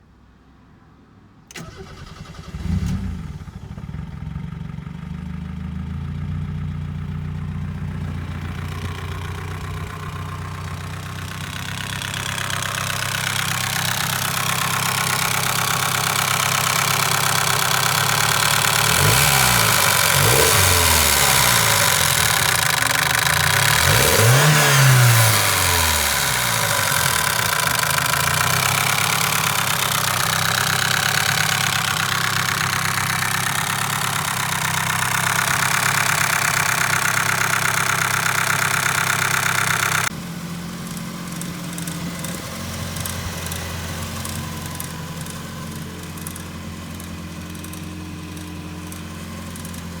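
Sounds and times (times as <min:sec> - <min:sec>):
car engine idling: 0:01.5 - 0:50.0
faint engine ticking: 0:03.3 - 0:50.0.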